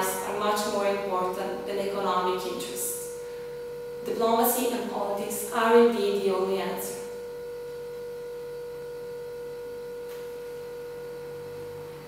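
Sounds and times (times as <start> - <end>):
electrical whine: 0.0 - 12.0.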